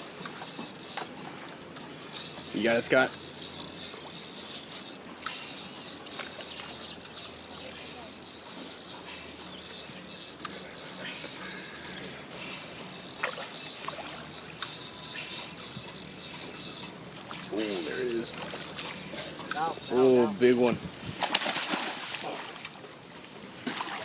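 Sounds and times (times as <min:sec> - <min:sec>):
fishing reel ratchet clicking: 0:00.0 - 0:01.1, 0:01.7 - 0:20.6.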